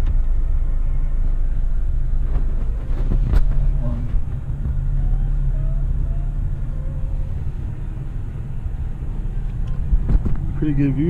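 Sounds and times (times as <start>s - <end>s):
vehicle rumbling over rough track: 0.0s - 11.0s.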